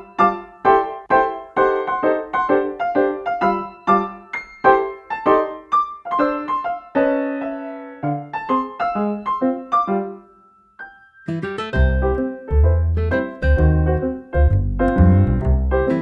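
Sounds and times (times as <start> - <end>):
light piano tune: 0.0 - 16.0.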